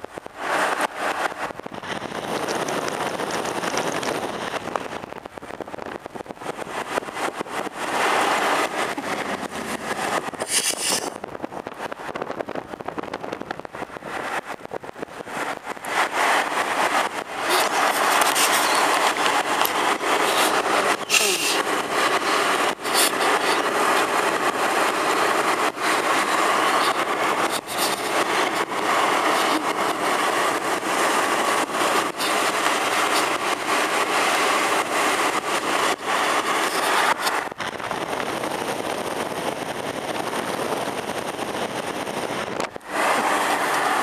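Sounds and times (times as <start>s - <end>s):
car road noise: 0.0s - 44.0s
wind buffeting microphone: 0.0s - 44.0s.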